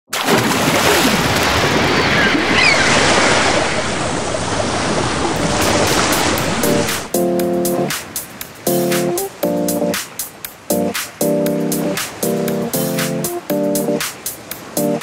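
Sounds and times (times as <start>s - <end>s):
breaking waves: 0.1s - 7.1s, 10.0s - 15.0s.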